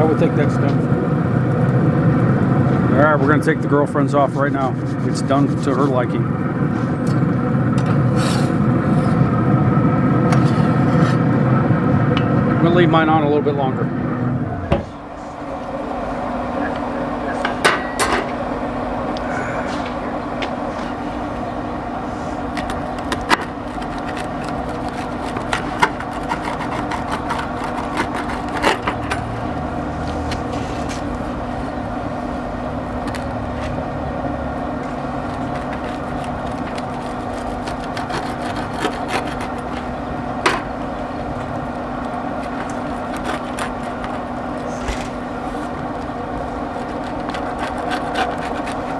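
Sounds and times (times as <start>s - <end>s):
mechanical hum: 0.0s - 48.9s.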